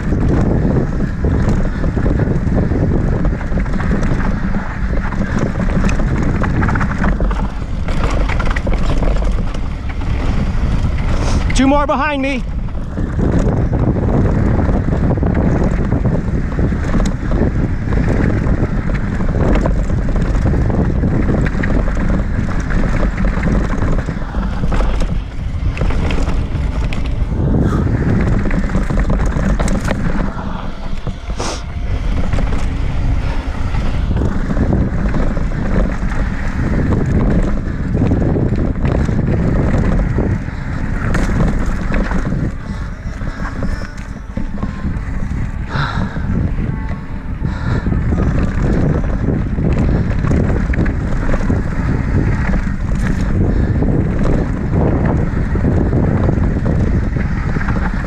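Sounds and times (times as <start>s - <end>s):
bike rattling over rocks: 0.0s - 58.0s
bike tyre noise: 0.0s - 58.0s
wind rush on microphone: 0.0s - 58.0s.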